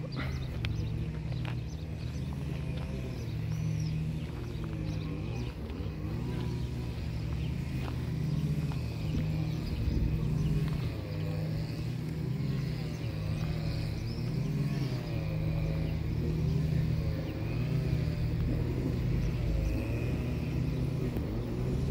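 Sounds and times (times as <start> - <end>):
car engine rumbling: 0.0 - 21.9.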